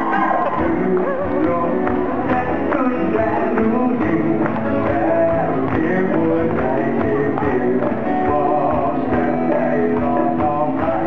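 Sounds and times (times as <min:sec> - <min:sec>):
pop-rock band playing: 0:00.0 - 0:11.0.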